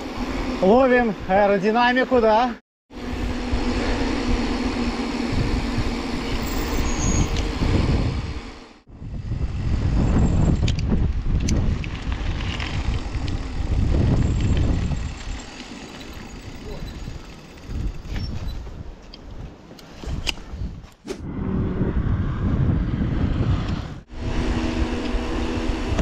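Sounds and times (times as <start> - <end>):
wind buffeting microphone: 3.1 - 26.0.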